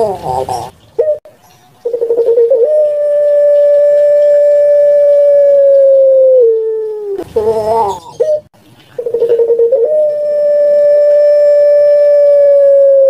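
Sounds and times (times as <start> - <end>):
dove cooing: 0.0 - 1.2, 1.9 - 13.0.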